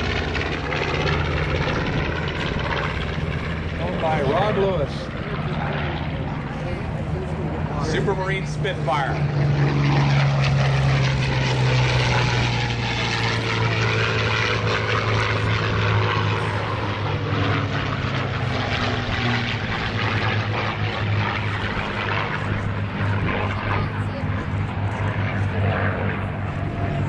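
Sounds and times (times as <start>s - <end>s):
propeller plane flyby drone: 0.0s - 27.0s.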